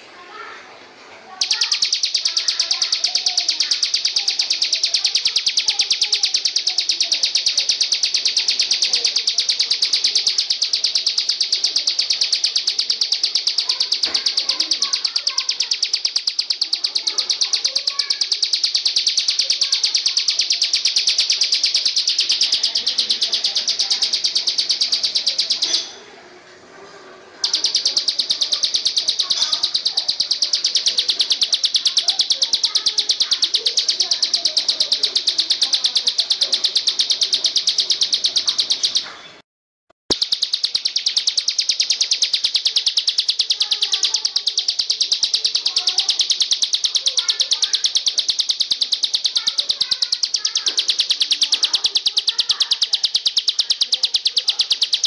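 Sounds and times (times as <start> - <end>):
songbird fast trill: 1.3 - 26.0, 27.4 - 39.1, 40.1 - 55.0
faint scattered bird chirps: 1.3 - 26.2, 27.3 - 39.4, 40.1 - 55.0.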